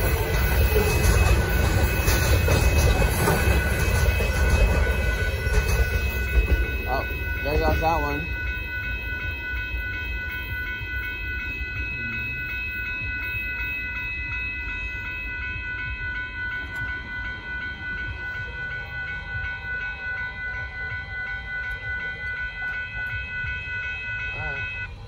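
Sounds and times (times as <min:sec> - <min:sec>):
crossing bells ringing: 0:00.0 - 0:25.0
freight train rumbling past: 0:00.0 - 0:25.0.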